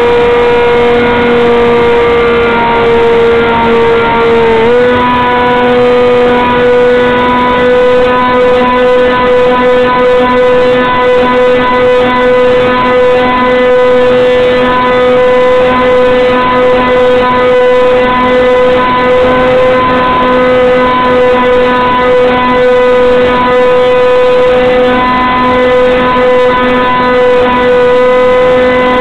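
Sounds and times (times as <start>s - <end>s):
model airplane motor drone: 0.0s - 29.0s.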